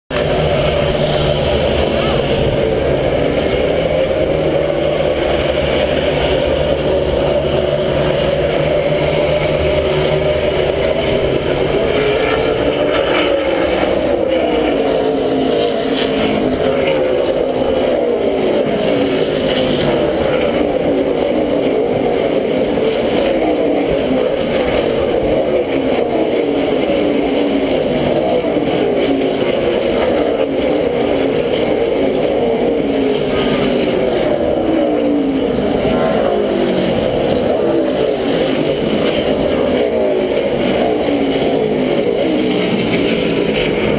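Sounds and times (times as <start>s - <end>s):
race car engines passing: 0.1s - 43.9s.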